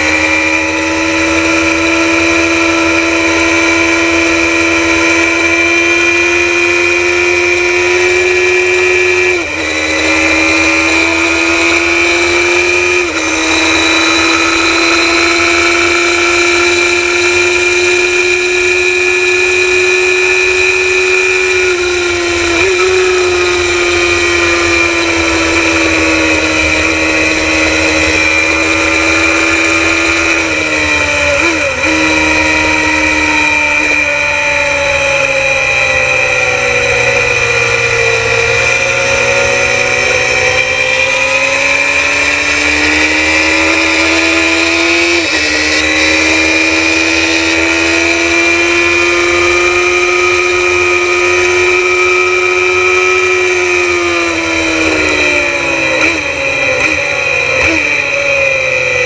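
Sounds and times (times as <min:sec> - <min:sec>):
motorcycle engine revving high: 0:00.0 - 0:59.0
motorcycle gear changes: 0:00.0 - 0:59.0.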